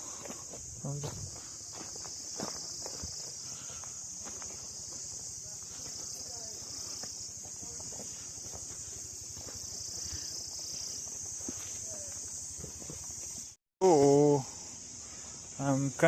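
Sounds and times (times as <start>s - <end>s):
faint footsteps: 0.0s - 13.6s
insects droning in trees: 0.0s - 16.0s.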